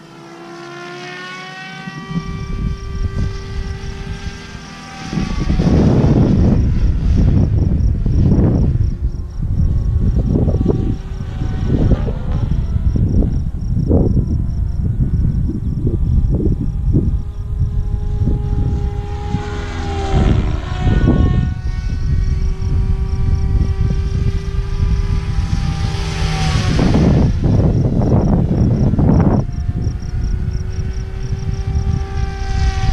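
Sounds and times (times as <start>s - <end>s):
rc helicopter rotor whine: 0.0s - 32.9s
wind rumble on microphone: 0.8s - 32.9s.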